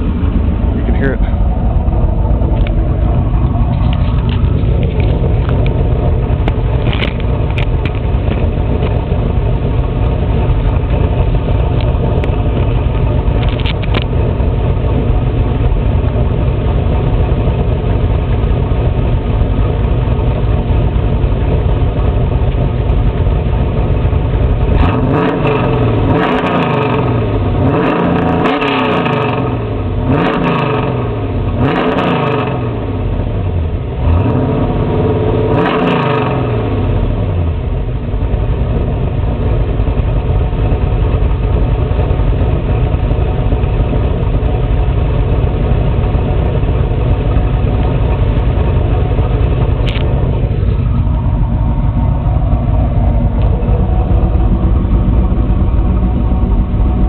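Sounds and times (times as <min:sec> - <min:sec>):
car engine idling: 0:00.0 - 0:57.0
engine revving: 0:00.0 - 0:57.0.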